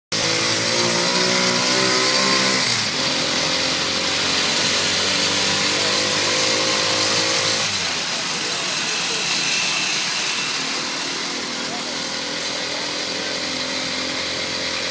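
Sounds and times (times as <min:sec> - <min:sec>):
road noise: 0:00.1 - 0:14.9
small motorcycle engine buzzing: 0:00.1 - 0:14.9.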